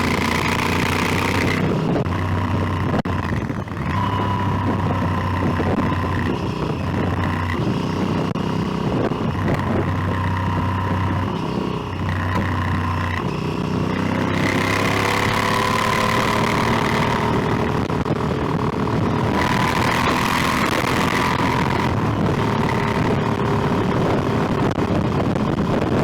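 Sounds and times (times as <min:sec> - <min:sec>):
motorcycle engine running: 0:00.0 - 0:26.0
wind rush on microphone: 0:00.0 - 0:26.0.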